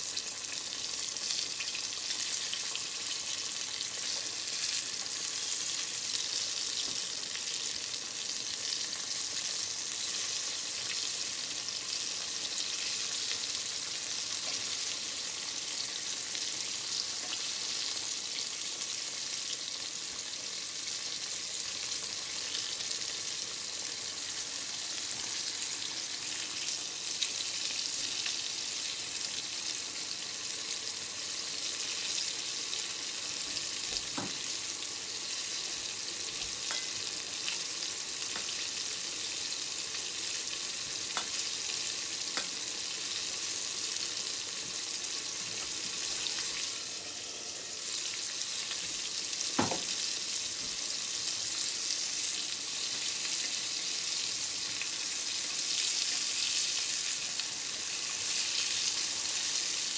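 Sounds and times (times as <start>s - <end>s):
tempura frying in oil: 0.0s - 59.9s.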